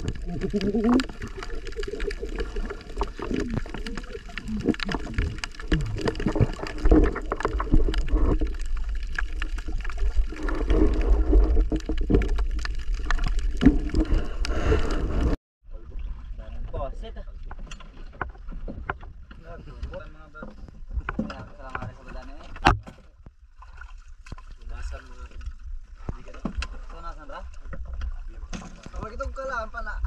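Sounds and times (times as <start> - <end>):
water gurgling and sloshing: 0.0 - 30.0.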